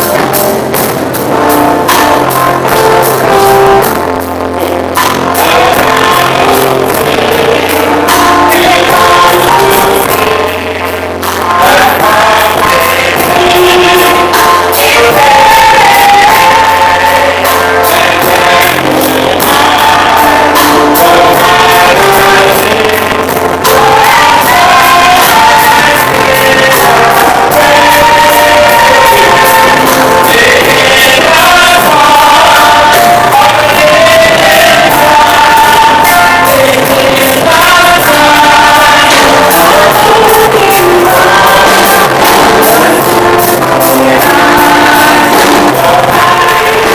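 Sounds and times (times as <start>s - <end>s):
gospel music with choir and band: 0.0s - 46.9s.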